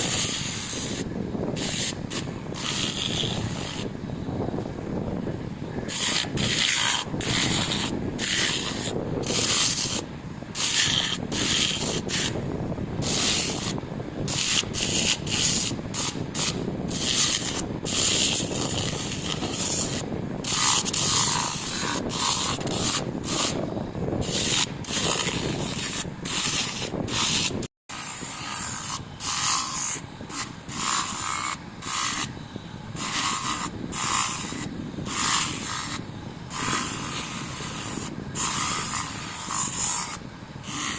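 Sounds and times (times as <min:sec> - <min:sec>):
sandpaper rasping on metal: 0:00.0 - 0:03.9, 0:05.8 - 0:12.4, 0:13.0 - 0:32.3, 0:33.0 - 0:40.9.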